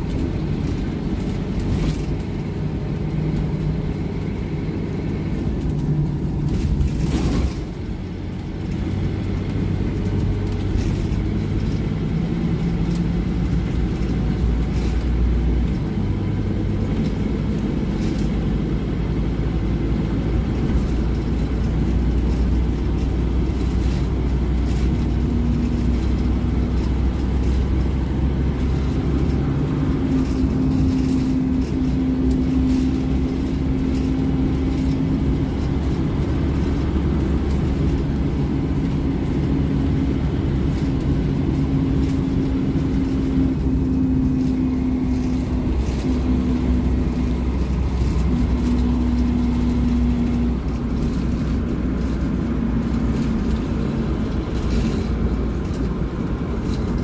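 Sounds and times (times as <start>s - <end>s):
bus engine drone: 0.0s - 57.0s
road rumble: 0.0s - 57.0s.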